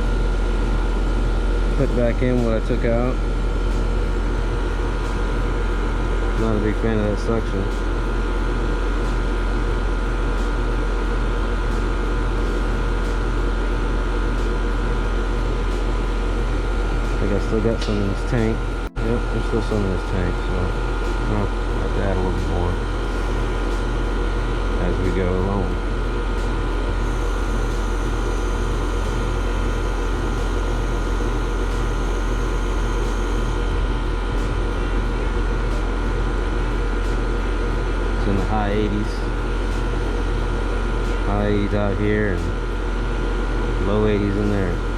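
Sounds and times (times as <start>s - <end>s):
air conditioning unit humming: 0.0s - 44.9s.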